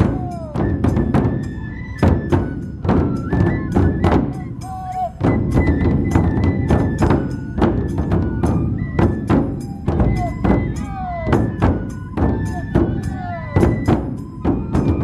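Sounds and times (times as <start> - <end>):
bamboo flute playing: 0.0 - 15.0
large drum beaten steadily: 0.0 - 15.0.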